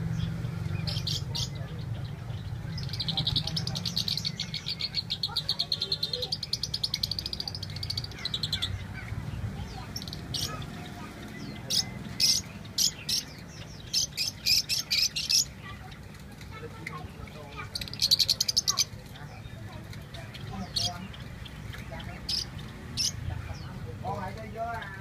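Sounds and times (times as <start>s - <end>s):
small birds chirping and trilling: 0.0s - 25.0s.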